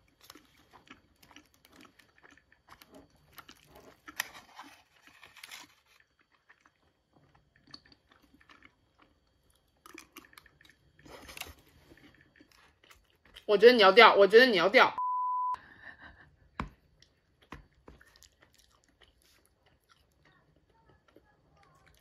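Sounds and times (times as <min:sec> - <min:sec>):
person chewing crunchy food: 0:00.0 - 0:13.5, 0:16.6 - 0:22.0.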